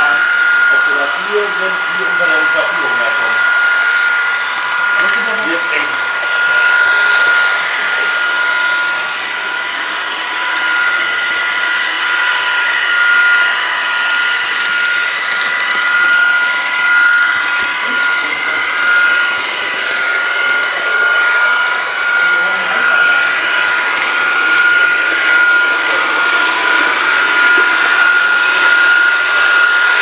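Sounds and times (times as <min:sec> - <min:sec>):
small electric motor whining: 0:00.0 - 0:30.0.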